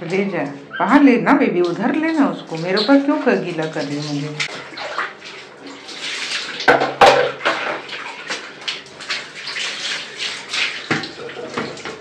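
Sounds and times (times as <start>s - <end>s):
water pouring and splashing on tiles: 0.0s - 0.6s, 1.4s - 12.0s.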